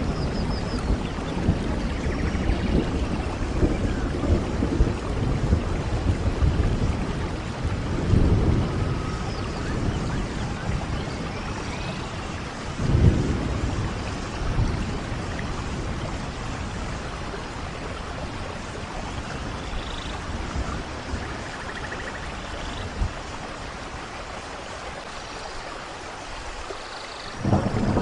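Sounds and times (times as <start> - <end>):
thunder rumbling: 0.0 - 24.1, 27.4 - 28.0
steady rain: 0.0 - 28.0.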